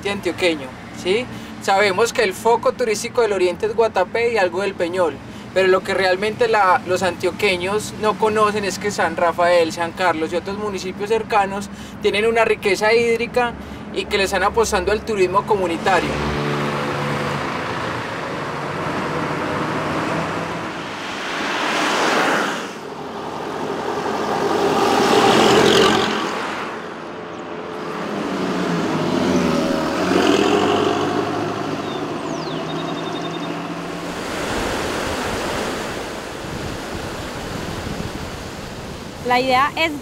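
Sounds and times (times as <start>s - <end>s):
vehicles passing by: 0.0s - 40.0s.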